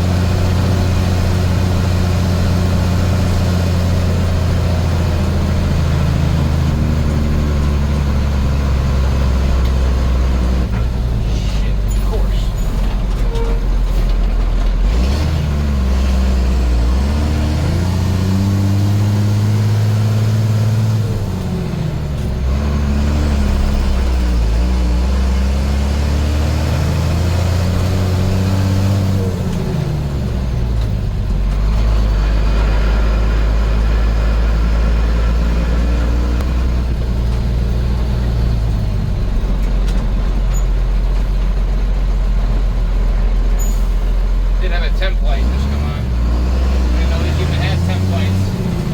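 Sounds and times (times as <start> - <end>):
diesel truck engine shifting gears: 0.0 - 48.9.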